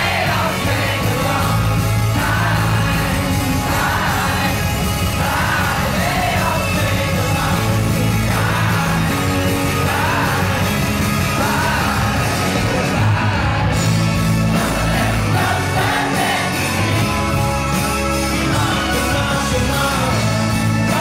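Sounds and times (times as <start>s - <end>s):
lead vocalist singing: 0.0s - 21.0s
live rock band playing: 0.0s - 21.0s.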